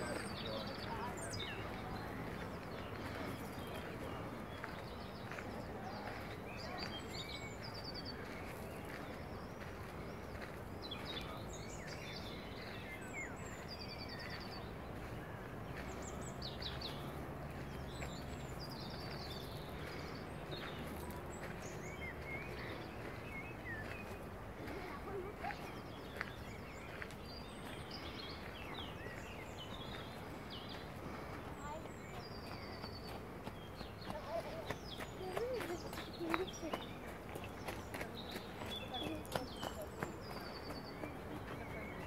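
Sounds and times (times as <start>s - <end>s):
outdoor background noise: 0.0s - 42.0s
songbirds chirping: 0.0s - 42.0s.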